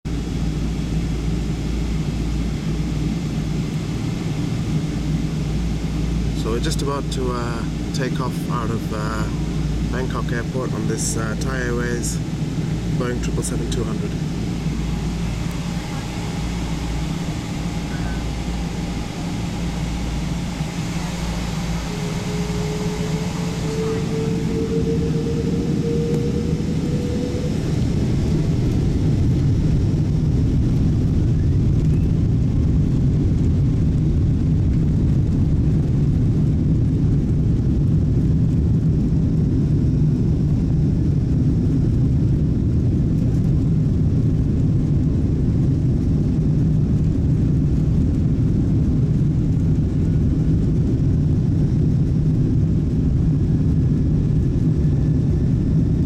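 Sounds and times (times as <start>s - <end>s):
jet engine low rumble: 0.0s - 56.0s
jet engine whine: 0.0s - 56.0s.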